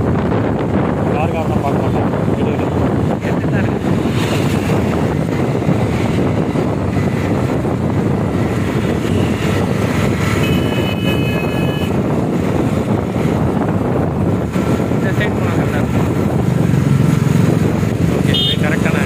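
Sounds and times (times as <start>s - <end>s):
motorcycle tyres on road: 0.0s - 19.0s
wind rushing over microphone: 0.0s - 19.0s.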